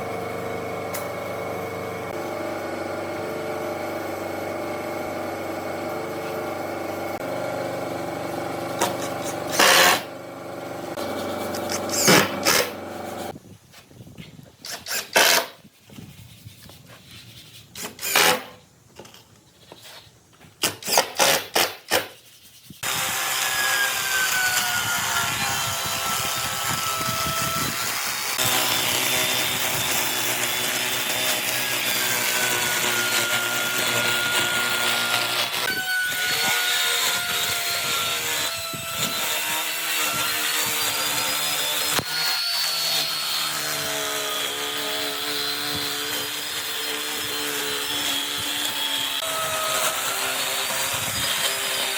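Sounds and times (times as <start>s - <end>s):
power tool running on wood: 0.0s - 13.3s, 22.8s - 51.9s.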